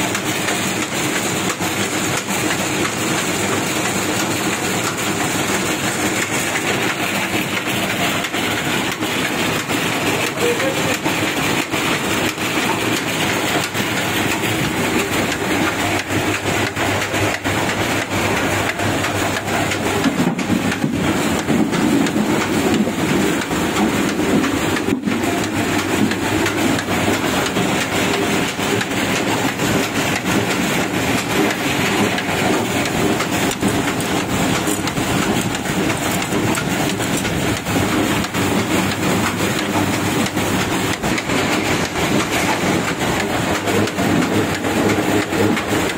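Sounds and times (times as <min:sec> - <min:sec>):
oil press machine rumbling: 0:00.0 - 0:45.9
rapid rattle of small knocks: 0:00.0 - 0:45.9.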